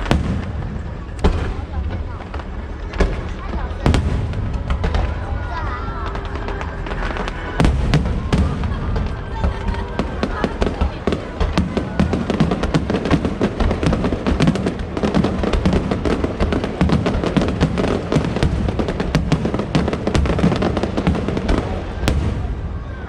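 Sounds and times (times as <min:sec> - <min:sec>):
fireworks bursts and crackles: 0:00.0 - 0:23.0.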